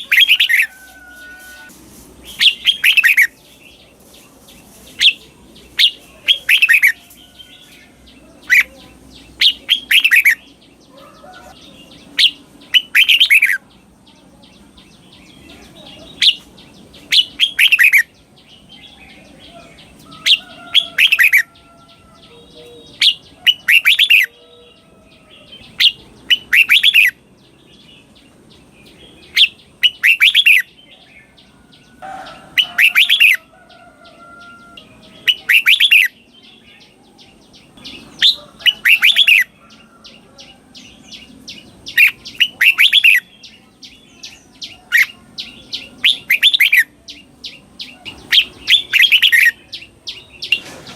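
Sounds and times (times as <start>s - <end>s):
bulbul singing: 0.0s - 50.9s.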